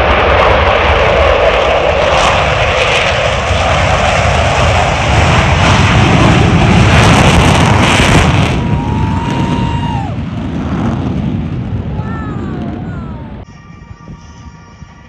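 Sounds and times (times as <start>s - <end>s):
jet aircraft roaring past: 0.0s - 13.5s.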